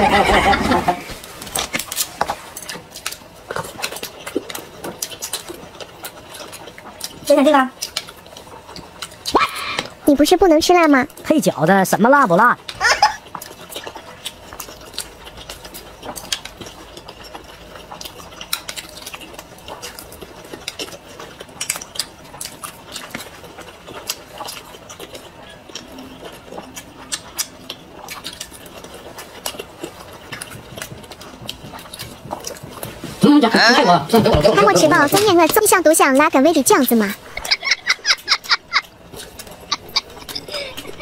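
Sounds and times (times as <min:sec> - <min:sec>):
close-up chewing: 0:01.1 - 0:10.1, 0:12.6 - 0:33.2, 0:34.2 - 0:41.0.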